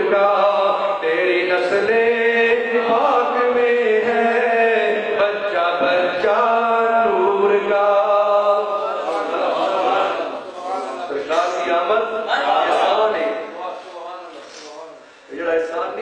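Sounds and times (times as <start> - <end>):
man chanting: 0.0 - 16.0.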